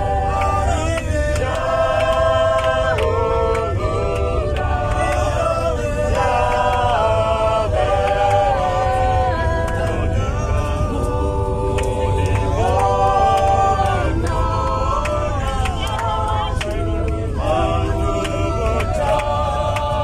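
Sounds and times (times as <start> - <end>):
choir singing in harmony: 0.0 - 20.0
steady low rumble: 0.0 - 20.0.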